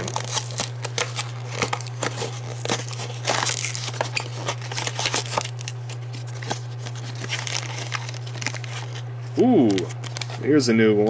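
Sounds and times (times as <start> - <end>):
packaging crinkling and tearing: 0.0 - 11.0
steady low hum: 0.0 - 11.0.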